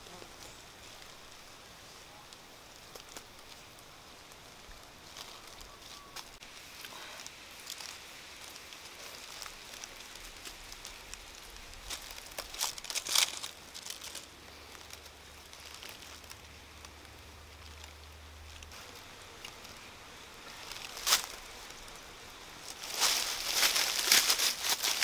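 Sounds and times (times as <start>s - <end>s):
dry leaves crackling and rustling: 0.0s - 25.0s.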